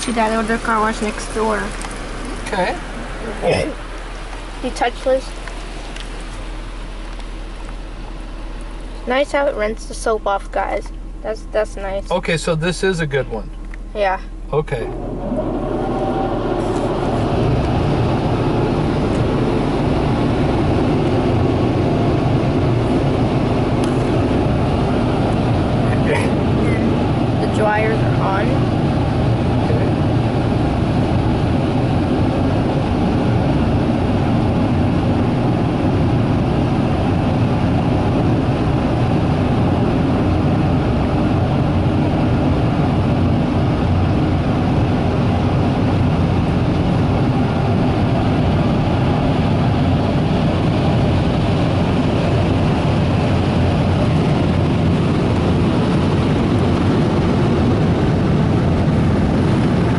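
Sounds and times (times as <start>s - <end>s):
car wash dryer blowers: 0.0s - 59.9s.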